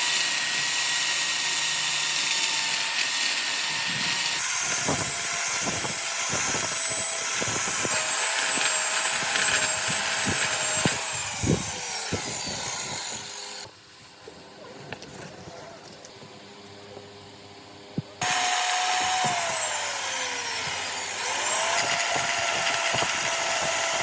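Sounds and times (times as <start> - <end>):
power tool working wood: 0.0 - 13.7, 18.2 - 24.0.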